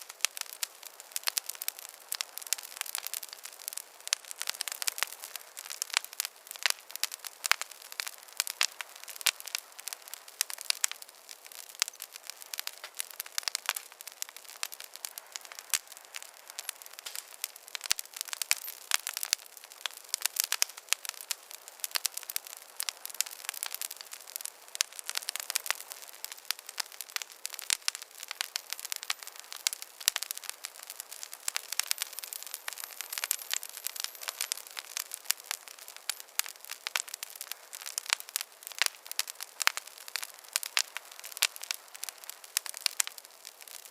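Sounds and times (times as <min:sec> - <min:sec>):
campfire crackling: 0:00.0 - 0:43.9.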